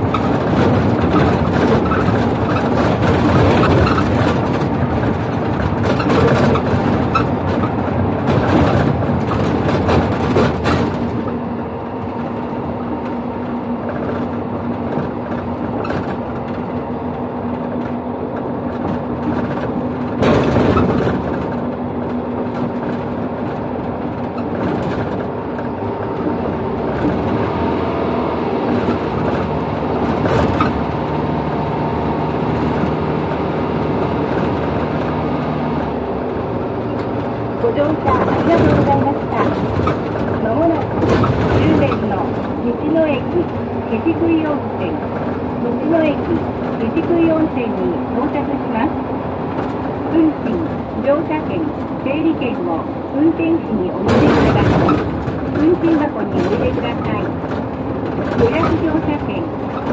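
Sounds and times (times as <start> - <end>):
minibus engine: 0.0 - 59.9.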